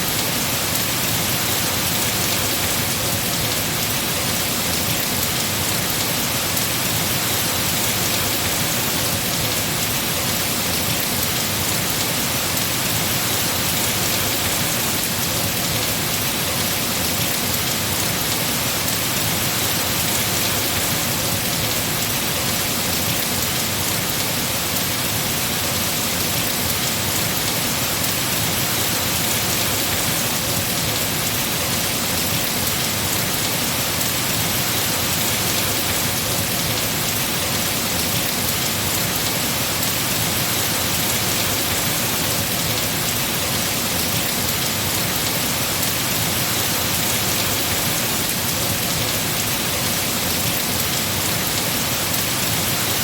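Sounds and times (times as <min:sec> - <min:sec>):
heavy rain on foliage: 0:00.0 - 0:53.0.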